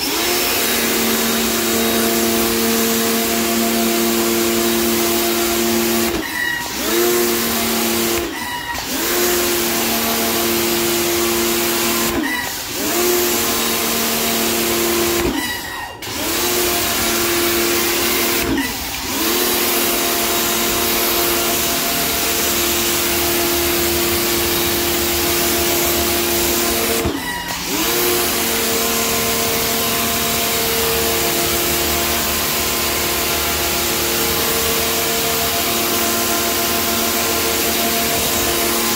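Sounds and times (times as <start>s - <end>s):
pressure washer spraying water: 0.0s - 38.9s
pump motor humming: 0.0s - 38.9s.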